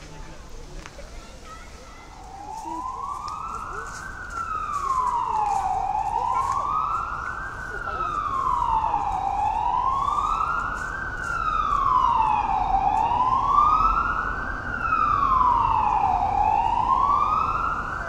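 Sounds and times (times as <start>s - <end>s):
siren wailing: 2.1s - 18.0s.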